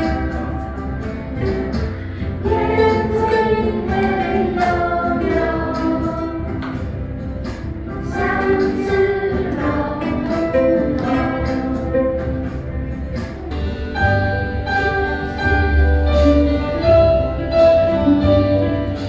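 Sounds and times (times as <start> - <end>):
instrumental melody: 0.0 - 19.0
steady bass line: 0.0 - 19.0.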